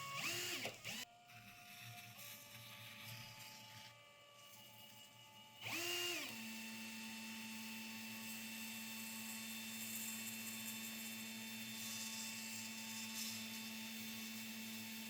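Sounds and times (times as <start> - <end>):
power tool motor whining and humming: 0.0 - 15.0.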